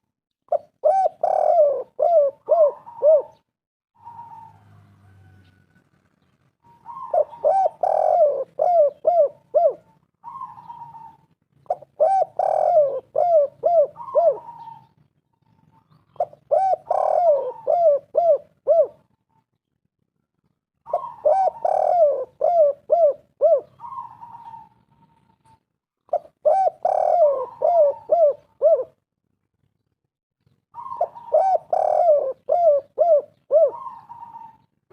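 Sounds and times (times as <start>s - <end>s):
dove cooing: 0.5s - 5.4s, 6.6s - 19.2s, 20.8s - 29.0s, 30.7s - 34.9s.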